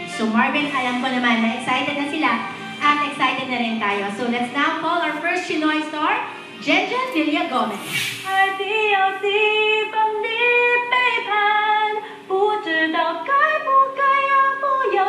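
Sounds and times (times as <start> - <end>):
woman singing through tv speaker: 0.0 - 15.0.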